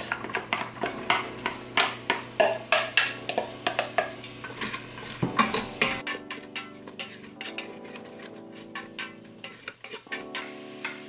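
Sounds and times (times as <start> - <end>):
stirring vegetables in pot: 0.0 - 11.0
wooden spoon clacking on metal pot: 0.0 - 11.0.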